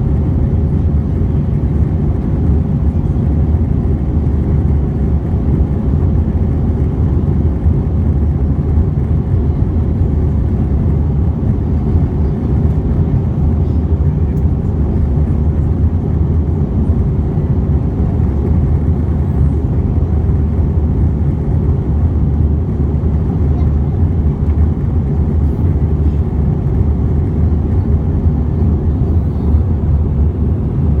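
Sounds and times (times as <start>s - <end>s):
low drone of aircraft engines: 0.0s - 31.0s.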